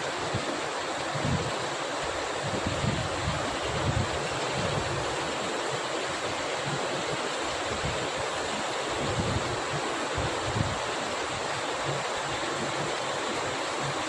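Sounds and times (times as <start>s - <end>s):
wind rumbling on microphone: 0.2s - 11.6s.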